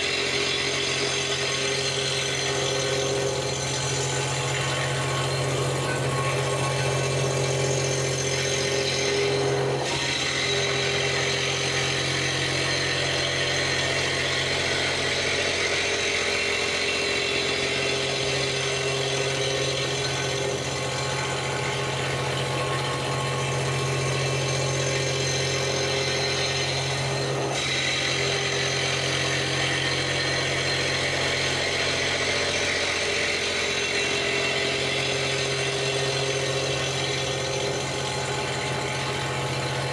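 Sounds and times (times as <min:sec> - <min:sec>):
milling machine spindle hum: 0:00.0 - 0:39.9.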